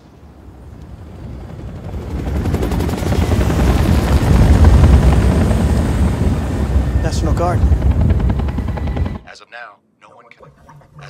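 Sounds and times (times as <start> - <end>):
helicopter rotor chop: 0.4 - 9.3.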